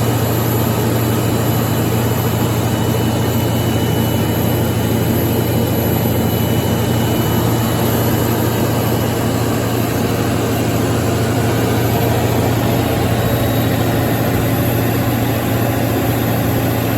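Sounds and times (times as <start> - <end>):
diesel generator running: 0.0 - 16.9.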